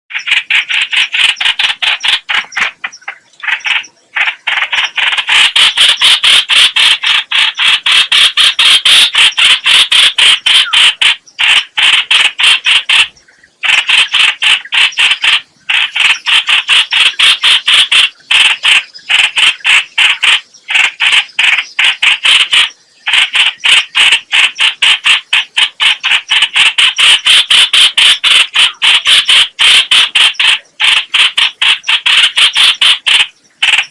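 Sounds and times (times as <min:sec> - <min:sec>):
bird chattering call: 0:00.1 - 0:33.9.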